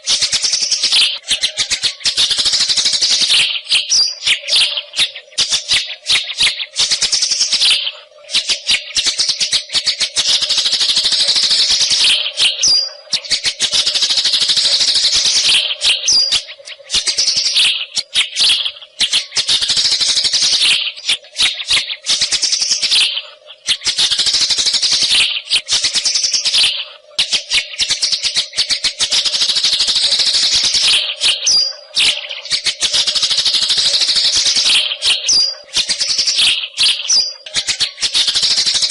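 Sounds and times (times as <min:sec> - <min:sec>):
bird singing rattling phrases: 0:00.0 - 0:38.9
whistled bird notes: 0:00.0 - 0:38.9.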